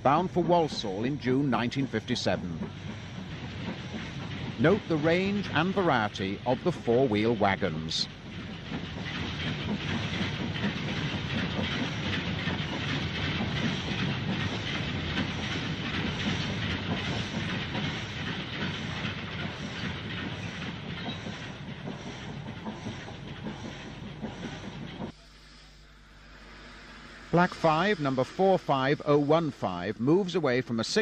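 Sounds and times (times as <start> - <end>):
train wheels clattering on rails: 0.0 - 25.2.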